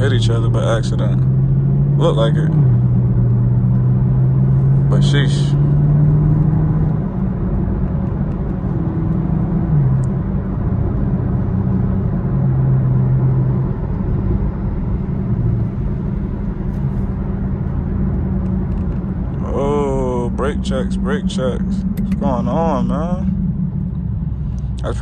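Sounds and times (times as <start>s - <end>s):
car engine running at low speed: 0.0s - 25.0s.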